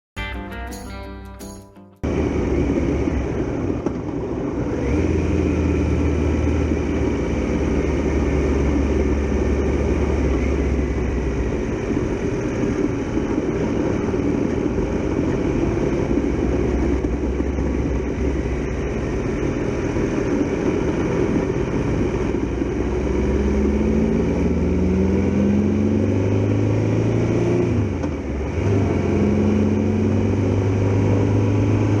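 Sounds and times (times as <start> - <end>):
motorcycle engine accelerating: 2.0 - 32.0.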